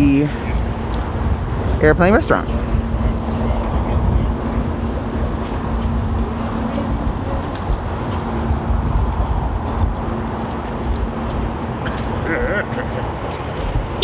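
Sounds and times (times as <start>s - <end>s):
car engine and road noise: 0.0s - 14.0s
faint constant hum: 0.0s - 14.0s.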